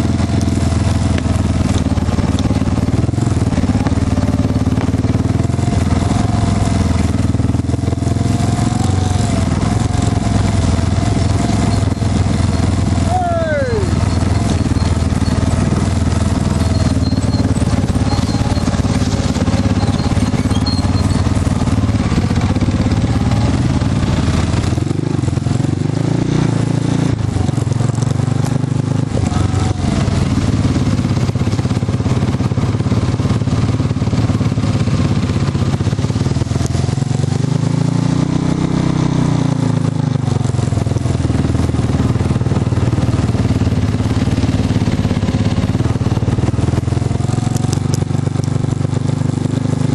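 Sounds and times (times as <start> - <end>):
off-road vehicle engine running: 0.0 - 49.9.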